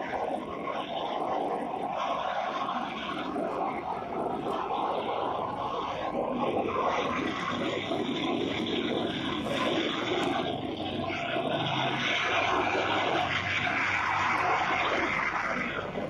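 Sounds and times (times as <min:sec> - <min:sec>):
fire rushing: 0:00.0 - 0:16.0.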